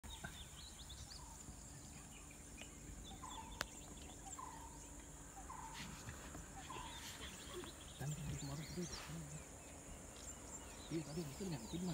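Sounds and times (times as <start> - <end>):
birds calling: 0.0 - 11.9.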